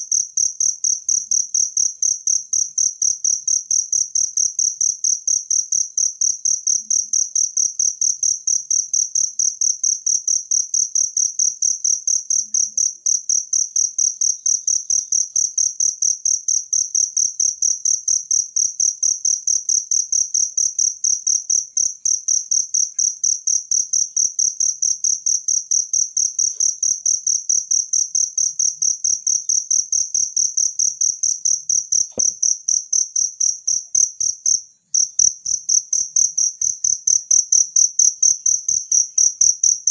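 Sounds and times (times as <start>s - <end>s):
cricket chirping: 0.1s - 39.9s.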